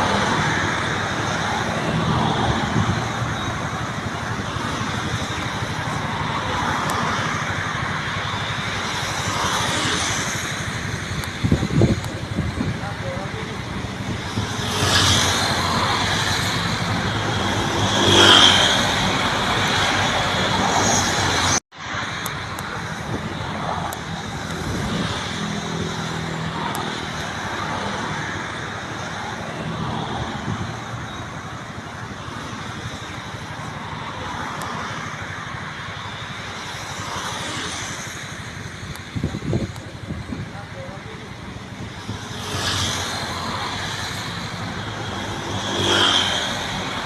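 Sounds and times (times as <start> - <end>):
passing road traffic: 0.0 - 47.0.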